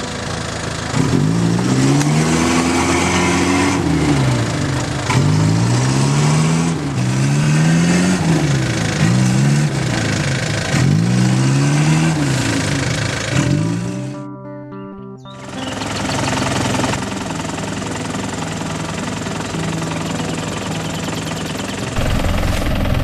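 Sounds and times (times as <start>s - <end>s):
engine revving: 0.0s - 14.2s, 15.4s - 23.0s.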